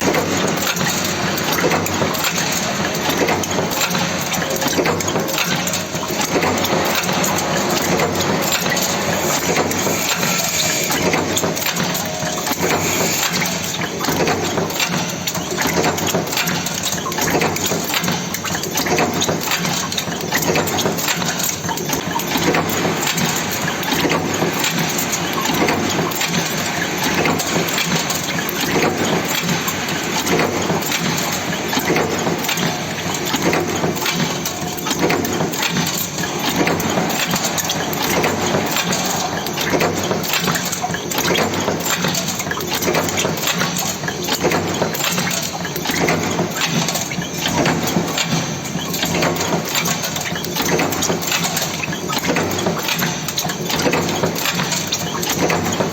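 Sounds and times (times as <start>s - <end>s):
forging machine clattering: 0.0s - 55.9s.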